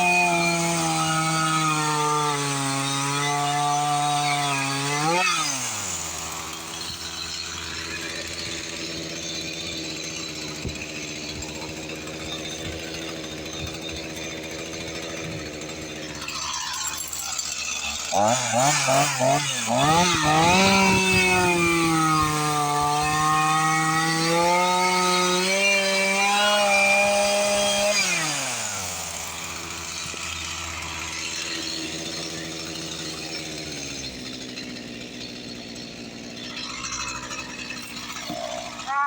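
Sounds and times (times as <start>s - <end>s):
chainsaw idling: 0.0s - 39.0s
chainsaw revving: 0.0s - 39.0s.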